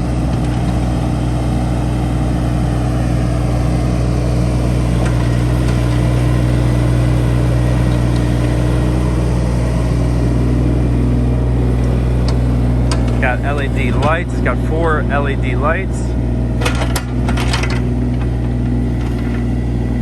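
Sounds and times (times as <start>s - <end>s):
diesel excavator engine running: 0.0s - 20.0s.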